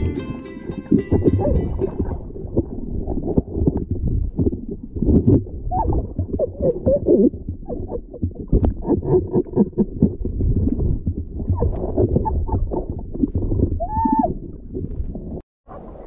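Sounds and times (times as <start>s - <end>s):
underwater bubbling and gurgling: 1.0s - 16.0s.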